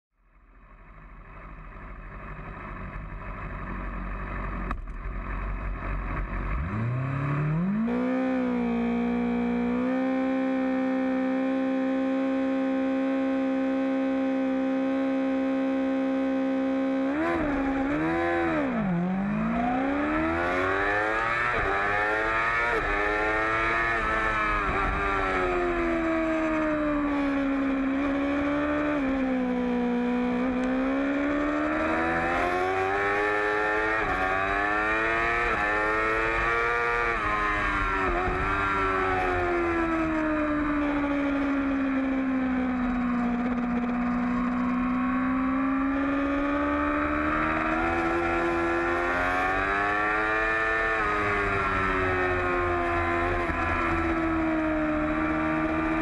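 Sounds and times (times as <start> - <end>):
motorcycle engine revving: 1.2 - 56.0.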